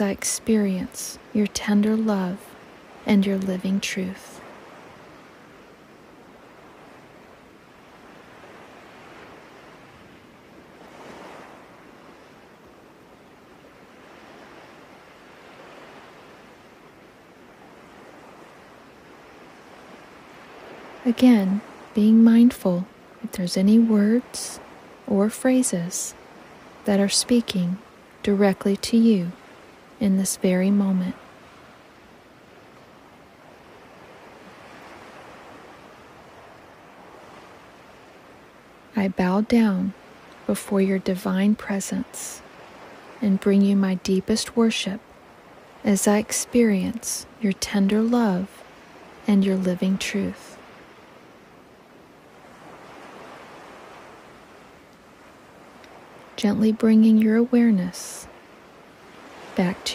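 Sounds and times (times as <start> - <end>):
faint steady rushing noise: 0.0 - 59.9
ocean waves washing in: 0.0 - 59.9.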